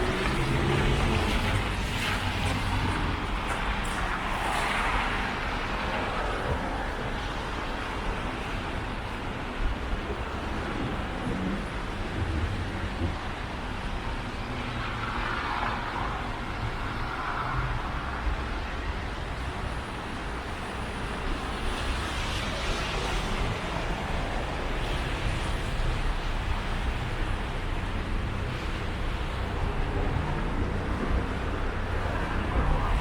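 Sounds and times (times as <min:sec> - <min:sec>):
road traffic rush: 0:00.0 - 0:33.0
vehicles passing by: 0:00.0 - 0:33.0.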